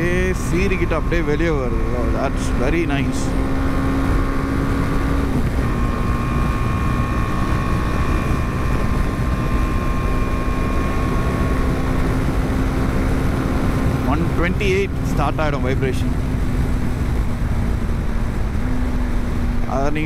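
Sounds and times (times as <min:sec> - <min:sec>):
motorcycle engine cruising: 0:00.0 - 0:20.0
wind rush on microphone: 0:00.0 - 0:20.0.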